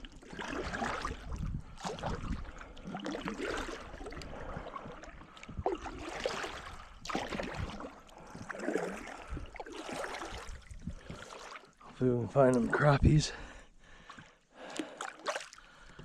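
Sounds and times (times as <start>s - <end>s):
water splashing around a kayak: 0.0s - 16.0s.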